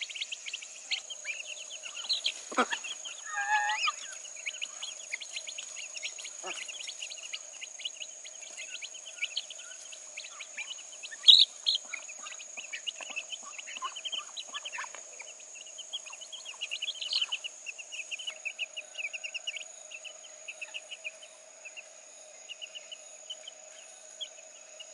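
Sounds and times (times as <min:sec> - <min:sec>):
chicks peeping: 0:00.0 - 0:21.9
high insect drone: 0:00.0 - 0:24.9.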